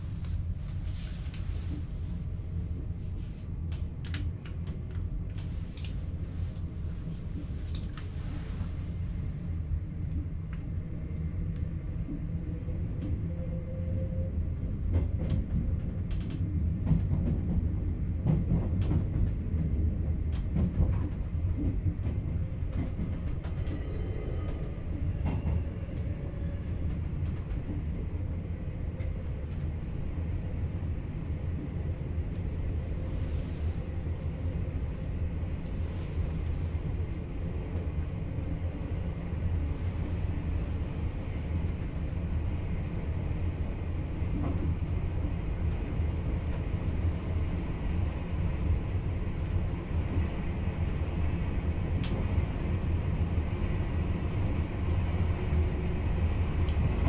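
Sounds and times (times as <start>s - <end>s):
train running on track: 0.0s - 57.0s.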